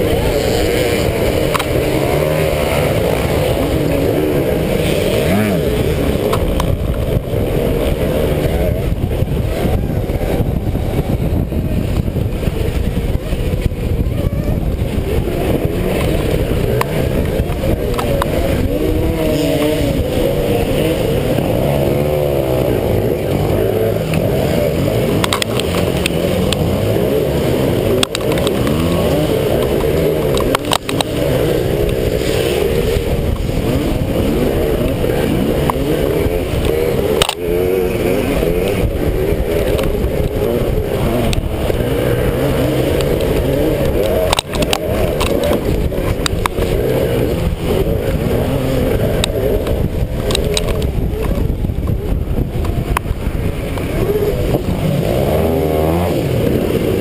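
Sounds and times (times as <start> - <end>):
electric dirt bike motor: 0.0 - 57.0
heavy wind: 0.0 - 57.0
trail rumble: 0.0 - 57.0.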